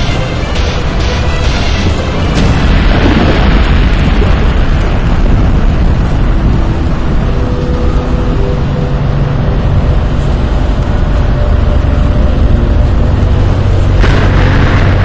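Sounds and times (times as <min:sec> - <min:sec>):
loud low rumble: 0:00.0 - 0:15.0.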